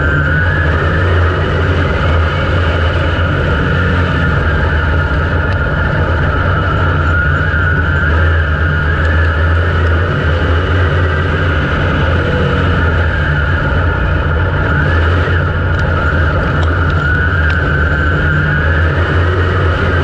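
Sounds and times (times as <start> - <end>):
race car engine running loud: 0.0 - 20.0.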